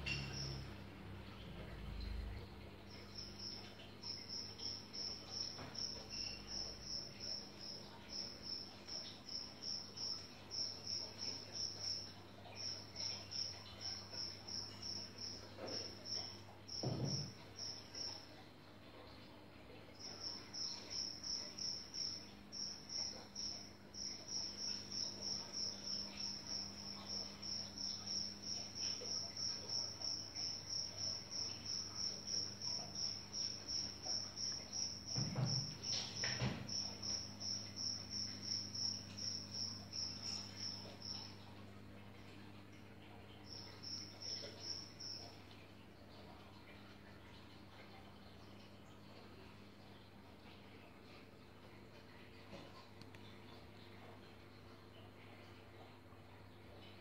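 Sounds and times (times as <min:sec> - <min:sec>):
cricket chirping: 0:00.0 - 0:18.4, 0:19.7 - 0:50.1
low steady hum: 0:00.0 - 0:57.0.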